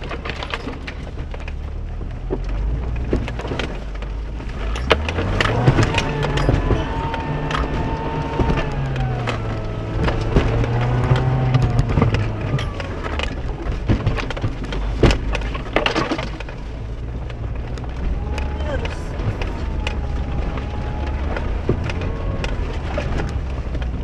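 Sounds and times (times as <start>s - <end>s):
car engine revving down: 0.0s - 24.0s
car knocking and clattering: 0.0s - 24.0s.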